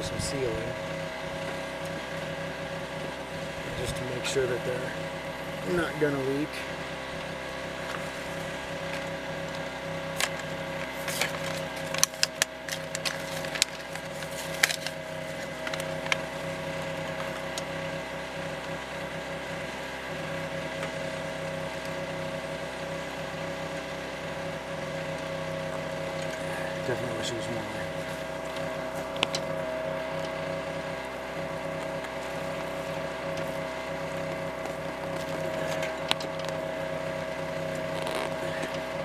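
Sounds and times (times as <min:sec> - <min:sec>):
portable generator humming: 0:00.0 - 0:39.0.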